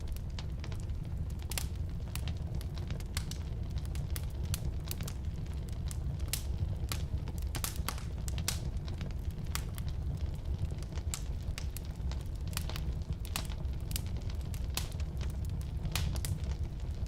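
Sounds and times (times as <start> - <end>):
burning wood crackling and popping: 0.0 - 17.0
fire flames rumbling: 0.0 - 17.0.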